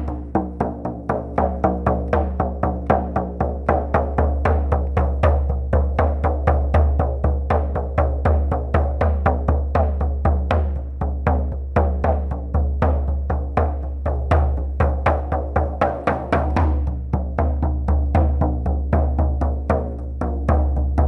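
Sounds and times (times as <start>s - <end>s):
frame drum beating: 0.0s - 21.0s.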